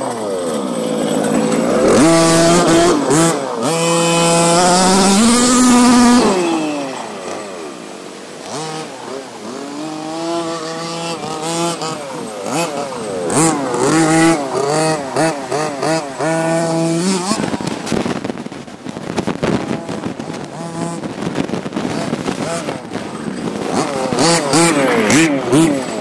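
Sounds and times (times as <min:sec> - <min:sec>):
model truck engine revving: 0:00.0 - 0:18.1, 0:19.7 - 0:26.0.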